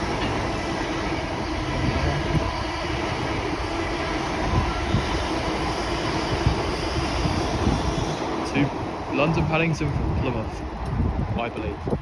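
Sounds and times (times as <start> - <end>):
train passing on track: 0.0 - 12.0.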